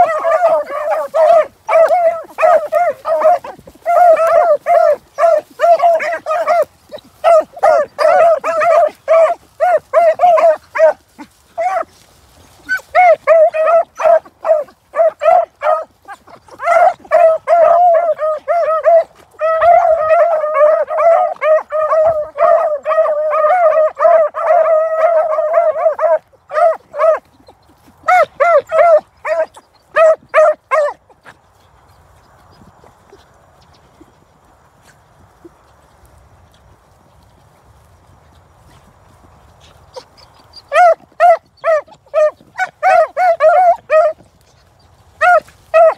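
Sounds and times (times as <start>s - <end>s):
beagles baying in high yips: 0.0s - 31.4s, 39.6s - 45.9s.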